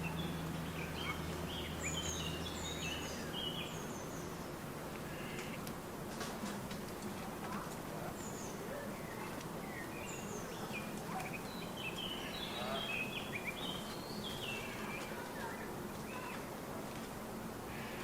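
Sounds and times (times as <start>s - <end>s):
small birds chirping: 0.0s - 5.7s, 7.0s - 16.6s
low background hum: 0.0s - 18.0s.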